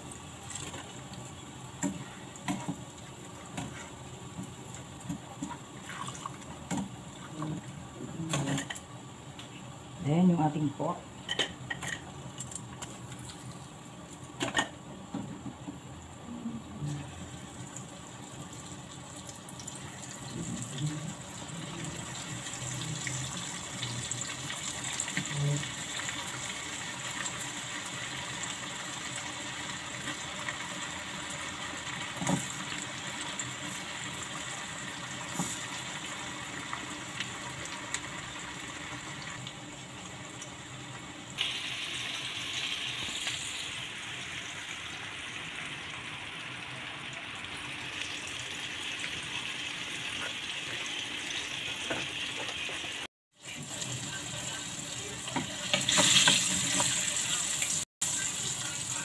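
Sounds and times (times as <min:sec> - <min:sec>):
oil sizzling in a pan: 0:00.0 - 0:16.3, 0:16.9 - 0:59.0.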